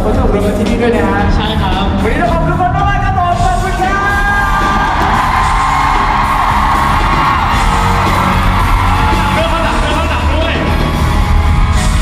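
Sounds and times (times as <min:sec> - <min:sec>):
live pop band with drums and bass: 0:00.0 - 0:12.0.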